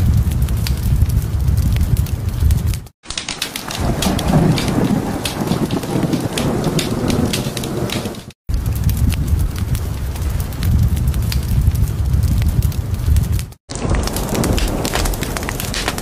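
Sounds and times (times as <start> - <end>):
rolling thunder: 0.0 - 2.8, 3.6 - 16.0
crackling fire: 0.0 - 16.0
rain falling: 0.0 - 16.0.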